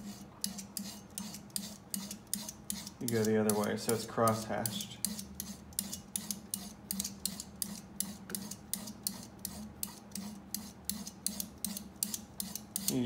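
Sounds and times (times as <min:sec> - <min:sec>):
saw blade scraping metal: 0:00.0 - 0:13.0.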